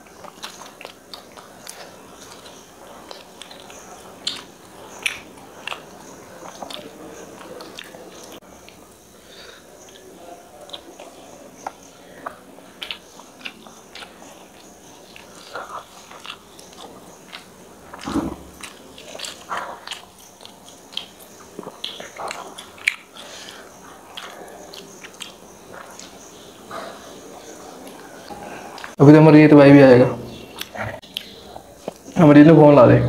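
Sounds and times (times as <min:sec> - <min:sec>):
chewing and mouth smacks: 0:00.0 - 0:08.8, 0:09.8 - 0:29.0, 0:30.4 - 0:32.2.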